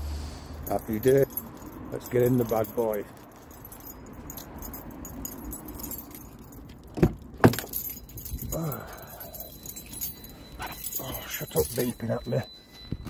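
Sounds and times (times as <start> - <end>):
handling and rustling: 0.6 - 13.0.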